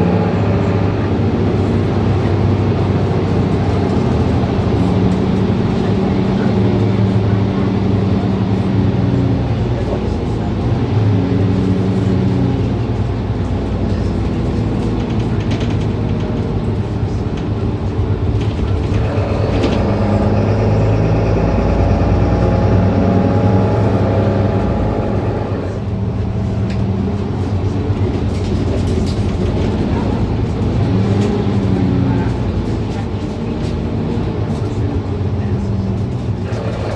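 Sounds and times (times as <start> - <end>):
bus engine humming: 0.0 - 36.9.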